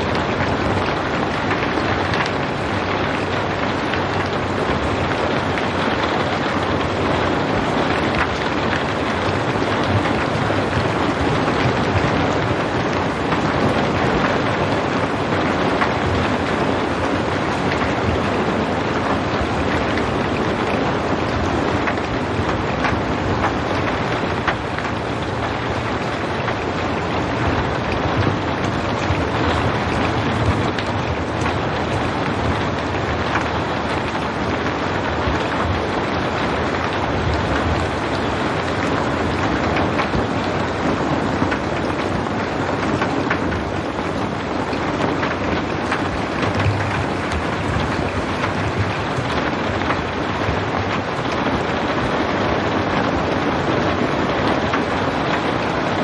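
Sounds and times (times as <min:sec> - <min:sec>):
rain drop ticks: 0:00.0 - 0:56.0
steady rain falling: 0:00.0 - 0:56.0.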